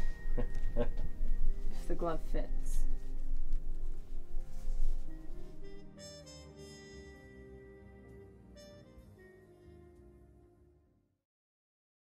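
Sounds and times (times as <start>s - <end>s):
quiet instrumental film score: 0.0s - 11.1s.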